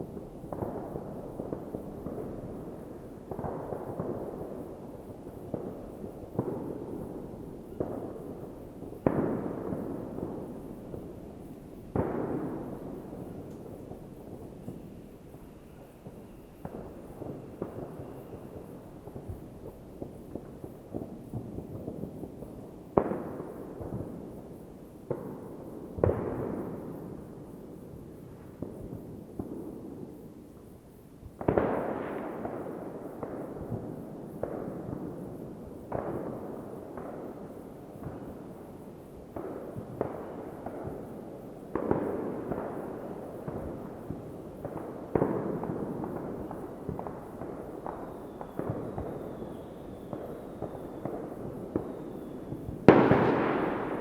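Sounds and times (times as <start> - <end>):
fireworks bangs with echo: 0.0 - 30.4, 31.2 - 54.0
fireworks crackling: 0.0 - 54.0.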